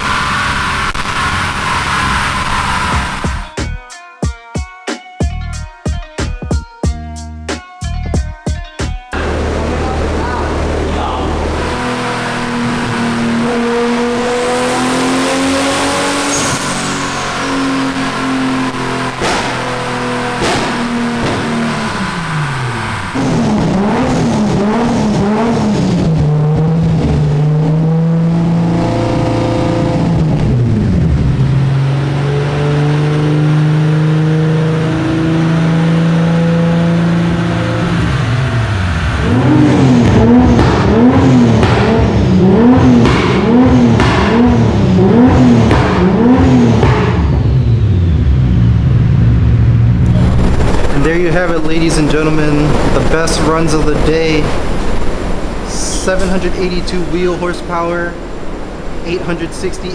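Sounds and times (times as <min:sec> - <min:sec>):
car engine revving on dyno: 0:00.0 - 0:03.5, 0:09.2 - 0:59.9.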